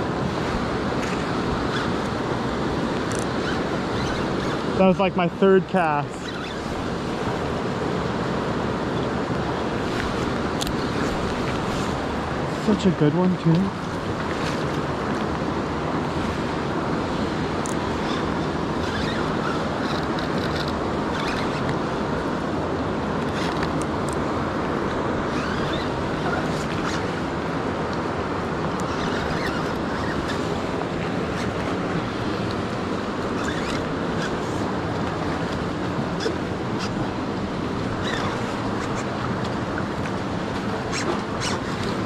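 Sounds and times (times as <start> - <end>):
river rushing over rocks: 0.0 - 42.0.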